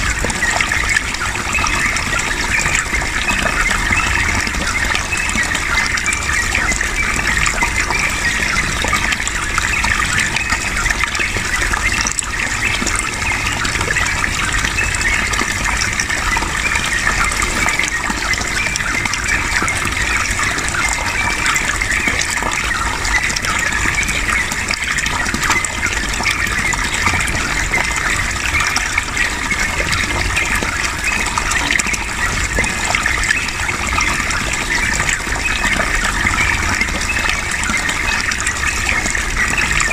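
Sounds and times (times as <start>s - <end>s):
flowing water splashing: 0.0s - 39.9s.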